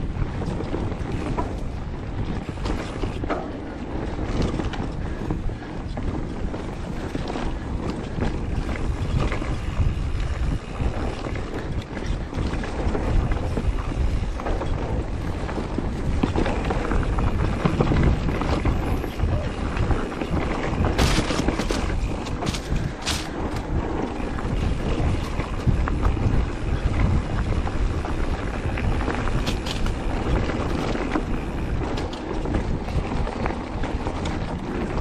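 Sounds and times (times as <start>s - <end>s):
bike frame rattling: 0.0s - 35.0s
tyres rumbling on dirt: 0.0s - 35.0s
wind buffeting microphone: 0.0s - 35.0s.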